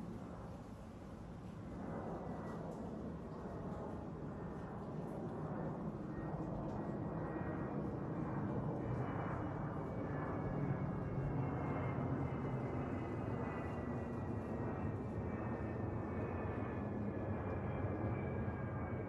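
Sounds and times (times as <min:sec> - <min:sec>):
jet airliner flying overhead: 0:00.0 - 0:19.0.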